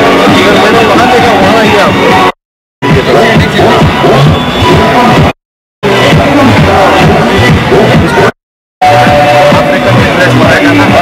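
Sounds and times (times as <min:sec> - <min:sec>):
loud background music: 0:00.0 - 0:11.0.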